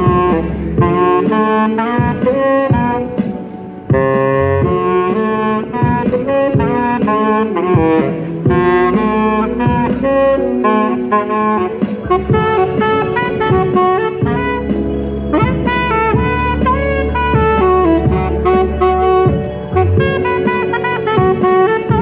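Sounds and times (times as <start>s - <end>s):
bass line accompaniment: 0.0s - 22.0s
jazzy saxophone melody: 0.0s - 22.0s.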